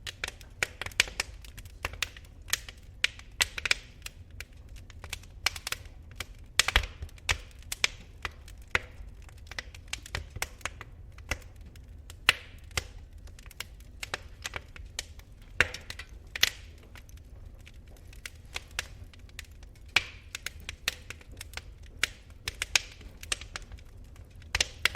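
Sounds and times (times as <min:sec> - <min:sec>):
fire crackling and popping: 0:00.0 - 0:24.9
low rumble of burning fire: 0:00.0 - 0:24.9.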